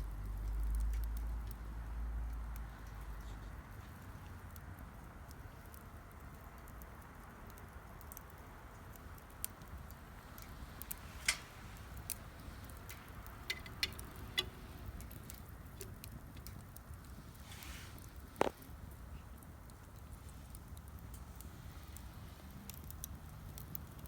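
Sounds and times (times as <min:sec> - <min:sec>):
fire low rumble: 0:00.0 - 0:24.0
wood fire crackling and popping: 0:00.0 - 0:24.0.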